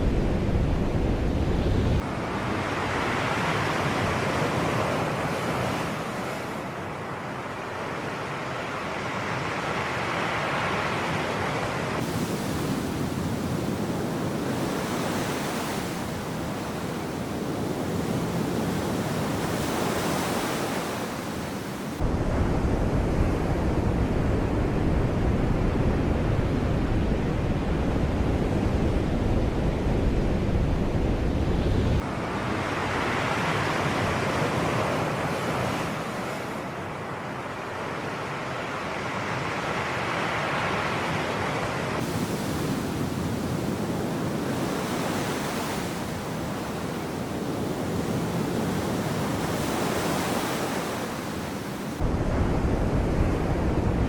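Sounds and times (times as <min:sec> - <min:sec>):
sea surf washing on shore: 0:00.0 - 0:24.5, 0:27.2 - 0:54.0.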